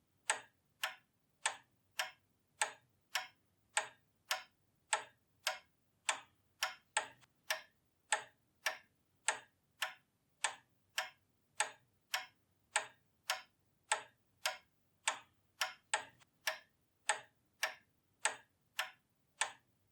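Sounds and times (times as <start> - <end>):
pendulum clock ticking: 0.2 - 19.7.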